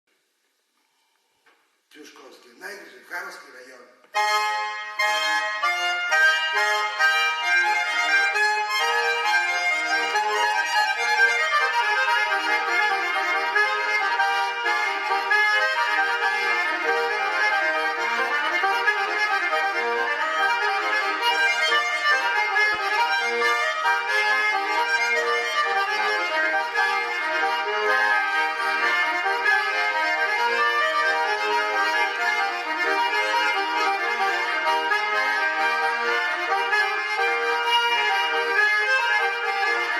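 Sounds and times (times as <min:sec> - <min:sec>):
button accordion folk dance tune: 0:02.7 - 0:39.9.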